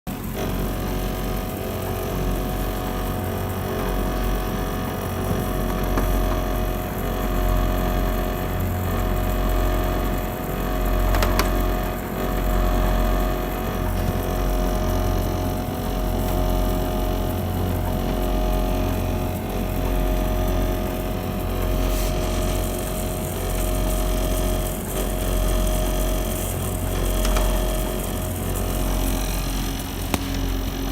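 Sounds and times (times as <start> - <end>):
air conditioner deep pulsing drone: 0.1 - 30.9
air conditioner steady hum: 0.1 - 30.9.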